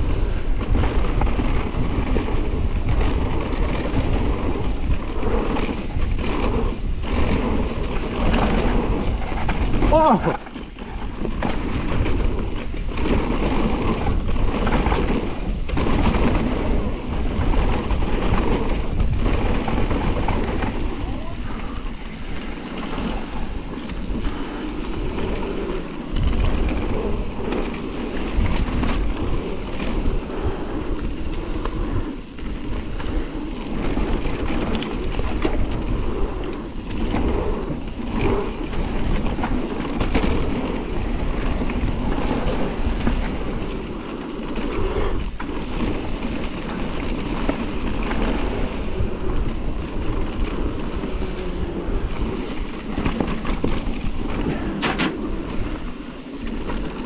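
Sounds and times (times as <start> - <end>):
heavy rumble of movement: 0.0 - 57.0
wind buffeting microphone: 0.0 - 57.0.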